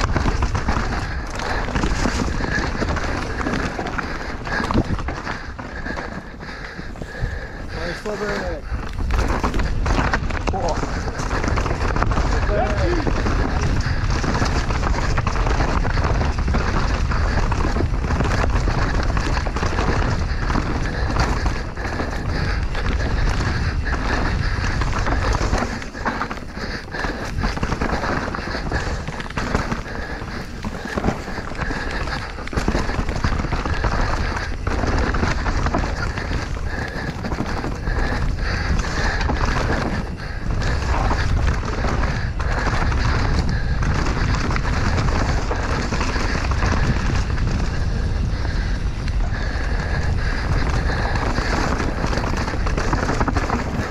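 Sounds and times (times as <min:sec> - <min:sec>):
bike rattles and knocks: 0:00.0 - 0:53.9
bike tyres over rocks and dirt: 0:00.0 - 0:53.9
wind rumble on microphone: 0:00.0 - 0:53.9.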